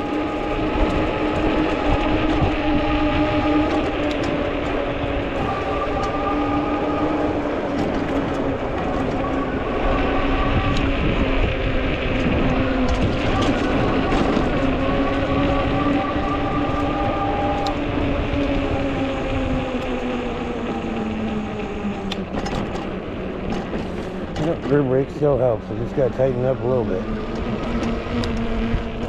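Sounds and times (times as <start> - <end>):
electric bike motor hum: 0.0 - 29.0
wind rumble on microphone: 0.0 - 29.0.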